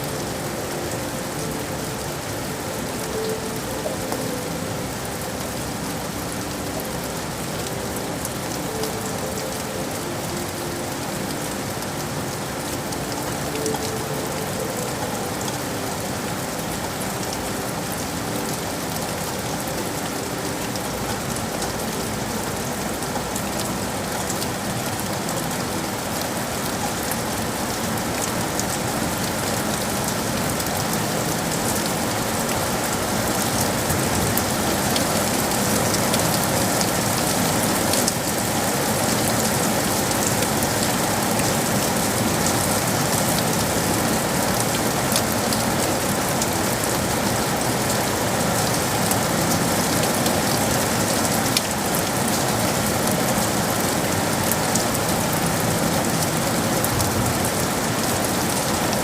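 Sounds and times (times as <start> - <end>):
steady rain patter: 0.0 - 59.0.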